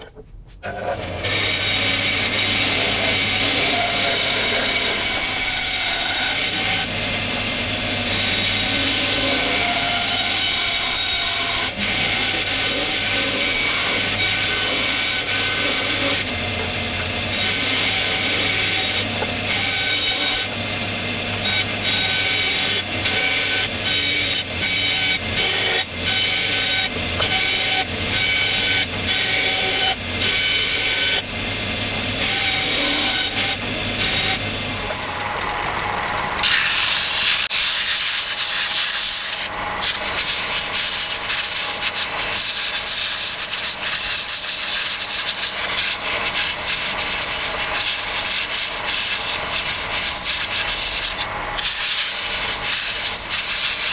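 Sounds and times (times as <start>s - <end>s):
bandsaw cutting wood: 0.6s - 53.9s
sander grinding wood: 0.6s - 53.9s.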